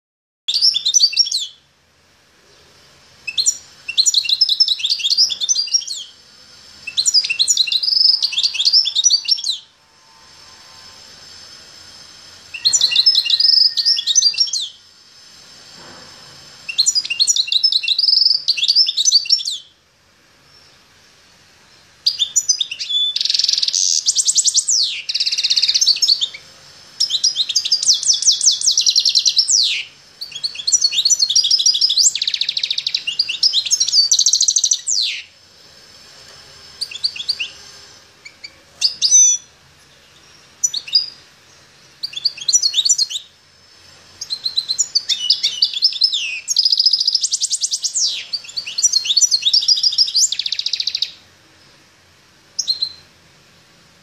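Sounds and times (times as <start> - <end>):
chaffinch singing: 0.5 - 1.7, 2.4 - 15.8, 16.5 - 19.8, 20.4 - 51.8, 52.5 - 53.1.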